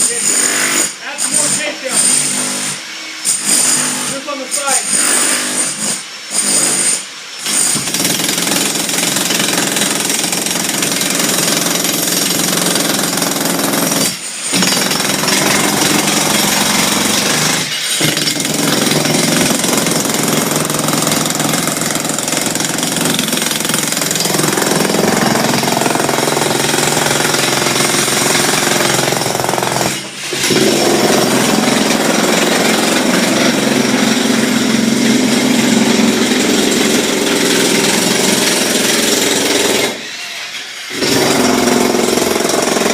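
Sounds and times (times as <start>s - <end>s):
jackhammer running: 4.8s - 40.0s, 40.9s - 42.9s.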